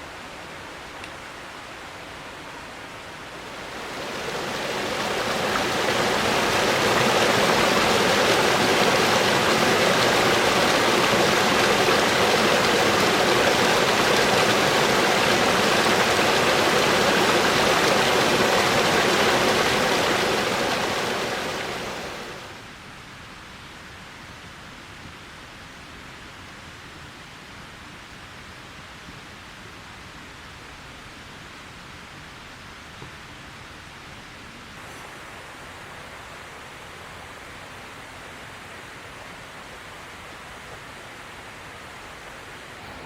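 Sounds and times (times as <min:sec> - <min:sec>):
rushing mountain stream: 0:00.0 - 0:23.2, 0:24.8 - 0:43.0.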